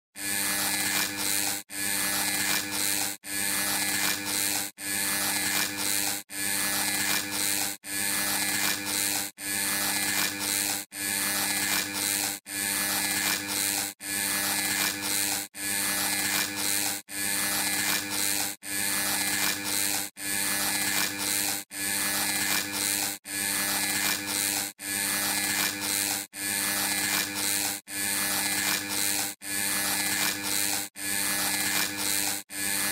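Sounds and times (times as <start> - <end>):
electric buzz: 0.2 - 32.9.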